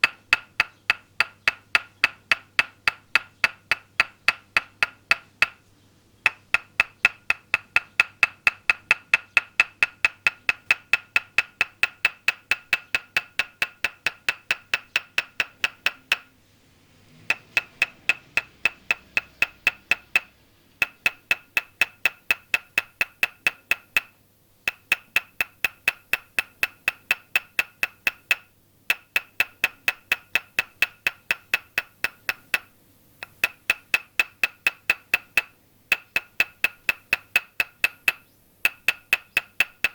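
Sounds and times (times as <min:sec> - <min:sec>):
wooden mallet tapping wooden peg: 0:00.0 - 0:16.4, 0:17.1 - 0:39.9.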